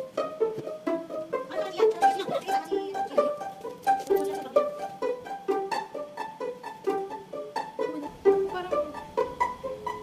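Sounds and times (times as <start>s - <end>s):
plucked-string melody: 0.0s - 10.0s.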